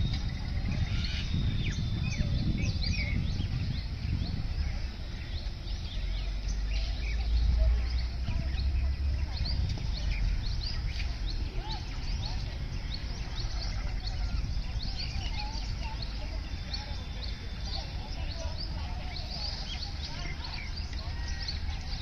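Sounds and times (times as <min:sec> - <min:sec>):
birds chirping and calling: 0:00.0 - 0:22.0
steady low rumble: 0:00.0 - 0:22.0.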